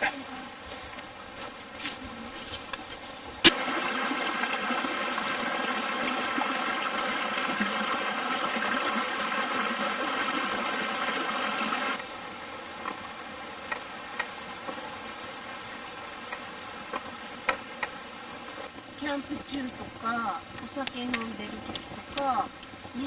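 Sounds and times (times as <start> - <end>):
river water rushing: 3.2 - 22.3.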